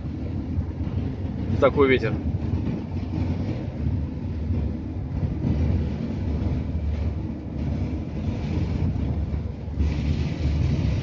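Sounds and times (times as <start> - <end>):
car engine and tyre drone: 0.0 - 11.0
wind gusting against car: 0.0 - 11.0.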